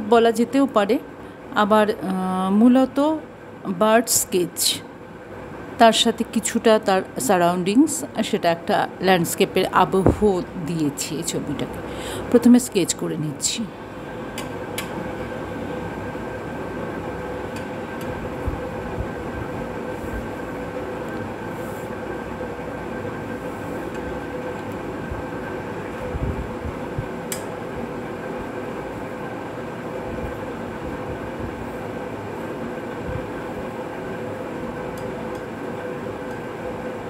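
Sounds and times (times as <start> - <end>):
mechanical rumble with hum: 0.0 - 37.0.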